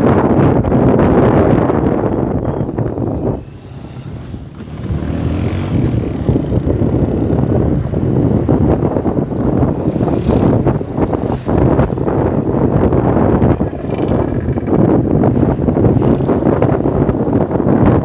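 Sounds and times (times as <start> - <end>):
road noise: 0.0 - 18.0
wind buffeting microphone: 0.0 - 18.0
scooter engine: 2.1 - 17.5.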